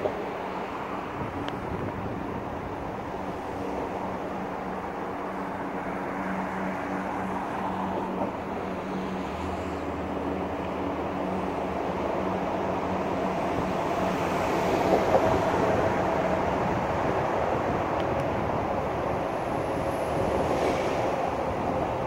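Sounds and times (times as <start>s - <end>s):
traffic rushing noise: 0.0s - 22.0s.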